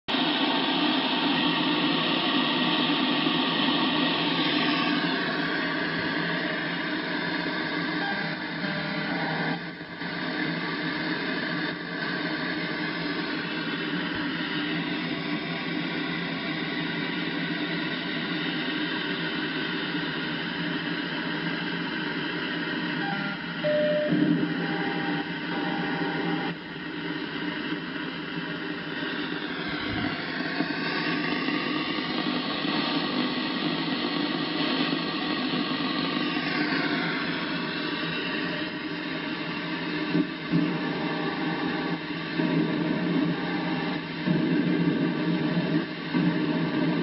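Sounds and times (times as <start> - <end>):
radio interference noise: 0.1 - 47.0.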